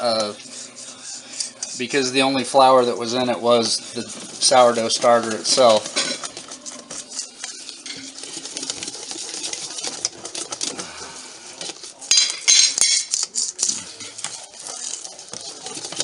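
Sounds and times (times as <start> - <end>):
whisk beating batter in metal bowl: 0.0 - 16.0.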